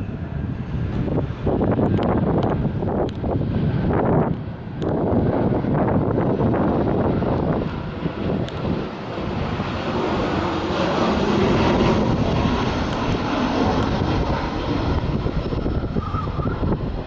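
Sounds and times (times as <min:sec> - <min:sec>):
low-flying aircraft passing overhead: 0:00.0 - 0:17.0.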